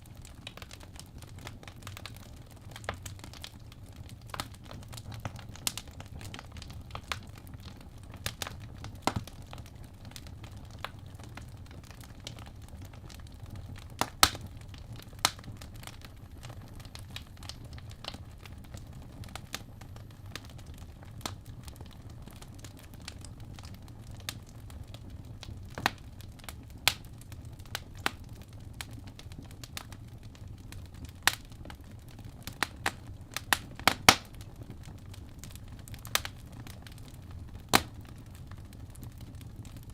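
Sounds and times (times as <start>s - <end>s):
logs crackling and popping: 0.0s - 39.9s
low steady fire rumble: 0.0s - 39.9s.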